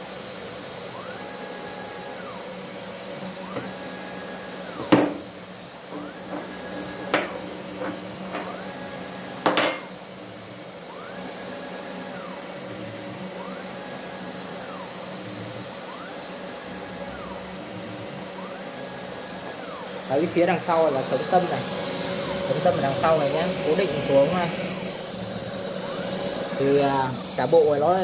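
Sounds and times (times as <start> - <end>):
spindle motor running: 0.0 - 28.0
stepper motors whining: 0.0 - 28.0.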